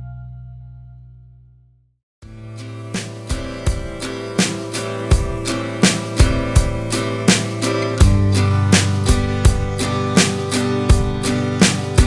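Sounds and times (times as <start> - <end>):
guitar instrumental with steady beat: 2.3 - 12.0.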